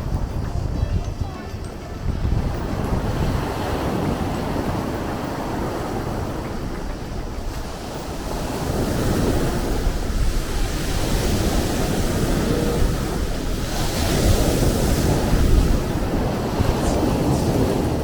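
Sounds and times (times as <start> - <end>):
deep rumble of waves: 0.0 - 18.0
surf rushing: 1.6 - 18.0.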